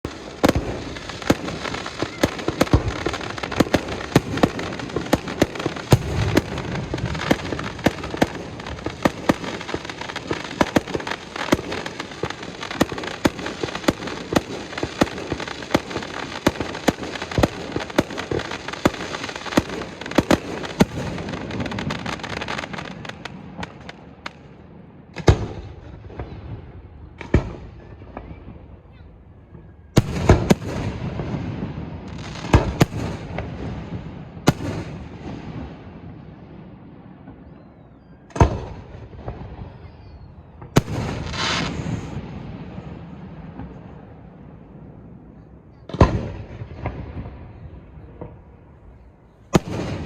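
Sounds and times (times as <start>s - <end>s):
fireworks crackling: 0.0s - 37.5s, 38.2s - 50.0s
fireworks bangs: 0.0s - 50.0s.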